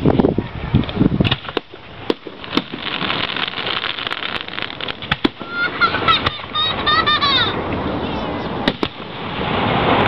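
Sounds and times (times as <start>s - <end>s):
fireworks crackling and banging: 0.8s - 7.6s, 8.6s - 10.0s.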